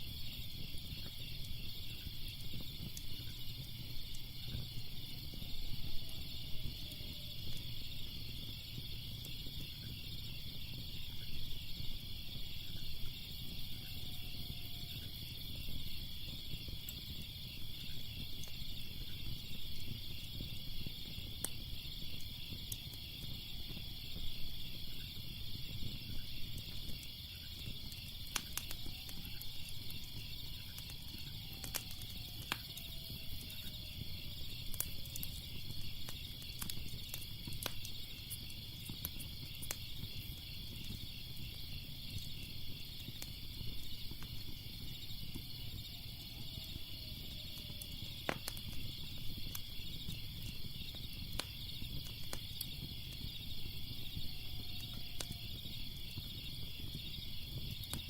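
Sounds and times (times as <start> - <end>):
crickets chirring: 0.0 - 58.0
fire crackling and popping: 0.0 - 58.0.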